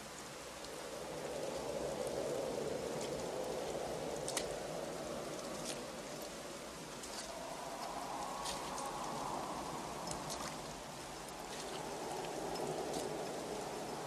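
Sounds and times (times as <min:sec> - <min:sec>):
rain pouring: 0:00.0 - 0:14.0
raindrops ticking: 0:00.0 - 0:14.0.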